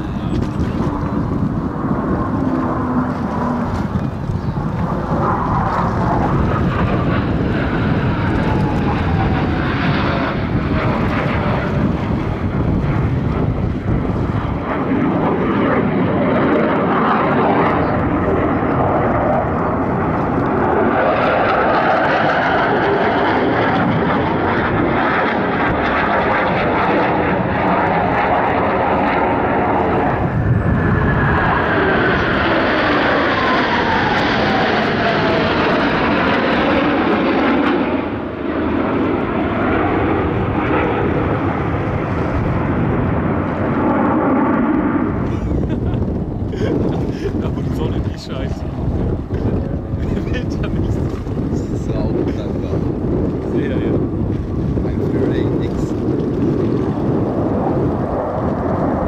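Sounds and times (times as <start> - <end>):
jet whine falling in pitch: 0.0 - 51.0
jet aircraft flying past: 0.0 - 59.0.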